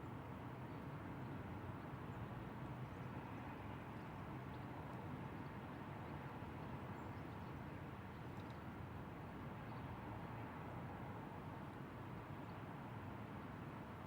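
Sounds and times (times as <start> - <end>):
faint outdoor background hum: 0.0 - 14.0.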